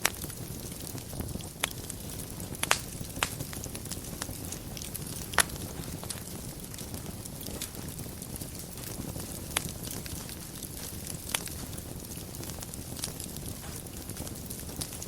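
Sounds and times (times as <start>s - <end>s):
fire crackling pops: 0.0s - 15.0s
rumble of fire flames: 0.0s - 15.0s.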